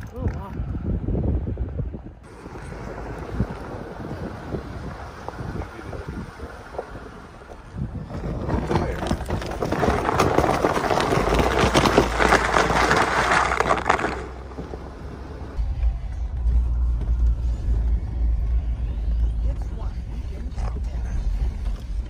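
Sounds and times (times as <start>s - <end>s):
low engine rumble: 0.0s - 22.0s
tyres crunching through snow: 2.2s - 22.0s.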